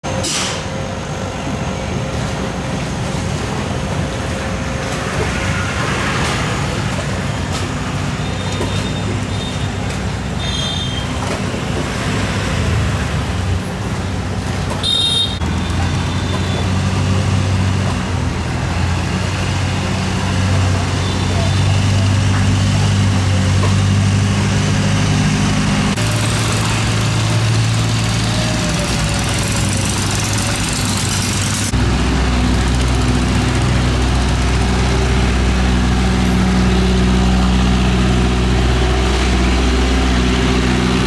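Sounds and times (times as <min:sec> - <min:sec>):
boat engine drone: 0:00.0 - 0:41.0.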